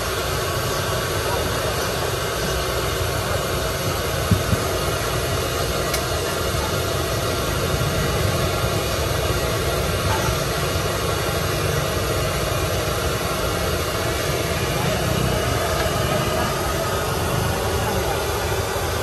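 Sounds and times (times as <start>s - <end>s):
oil sizzling in a wok: 0.0s - 19.0s.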